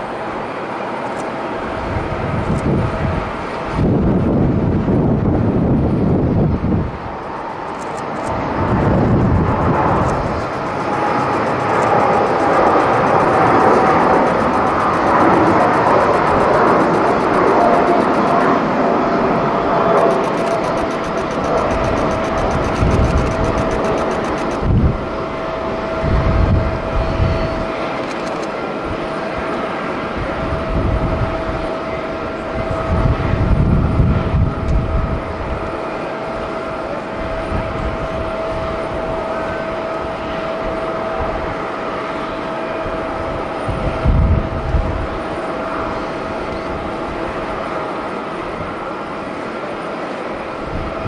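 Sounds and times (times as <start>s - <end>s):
jet engine roar: 0.0s - 51.0s
wind buffeting microphone: 1.6s - 27.8s, 30.1s - 35.8s, 36.6s - 41.7s, 42.7s - 47.8s.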